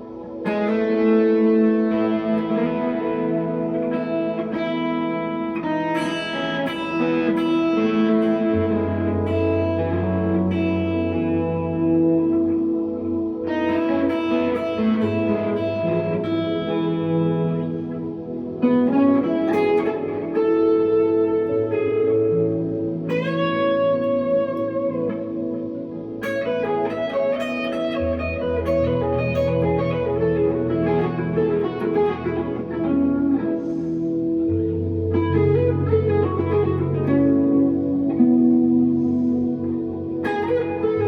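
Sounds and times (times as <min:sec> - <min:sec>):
electric guitar melody: 0:00.0 - 0:41.0.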